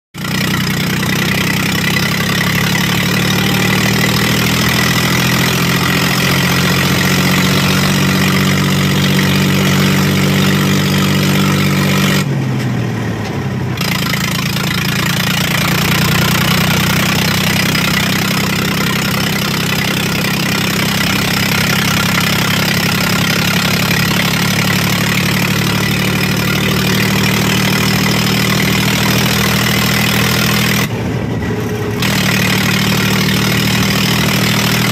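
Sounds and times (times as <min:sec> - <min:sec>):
unmuffled tractor diesel engine: 0:00.1 - 0:34.9.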